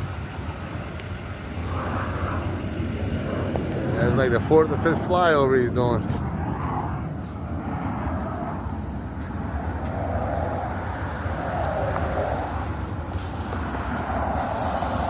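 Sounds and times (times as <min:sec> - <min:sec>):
aircraft flyover drone: 0:00.0 - 0:15.0.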